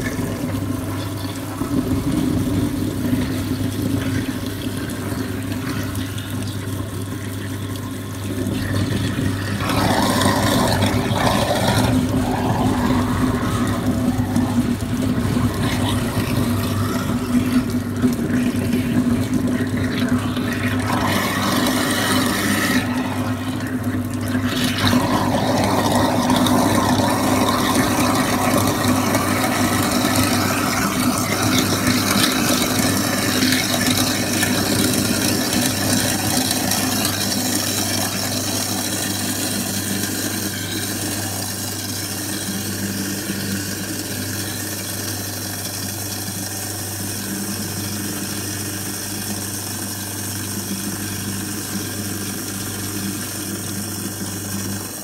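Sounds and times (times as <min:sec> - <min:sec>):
garbage disposal running: 0:00.0 - 0:55.0
tap water running: 0:00.0 - 0:55.0.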